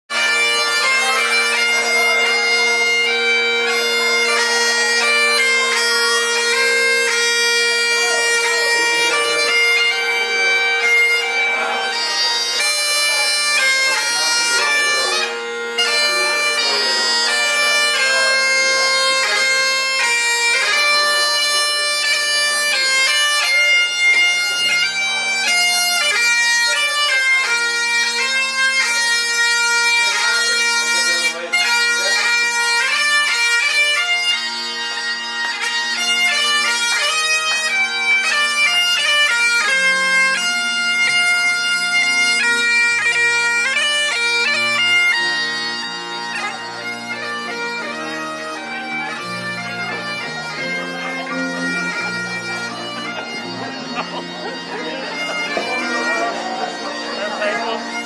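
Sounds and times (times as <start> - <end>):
bagpipes playing a tune: 0.1 - 58.0.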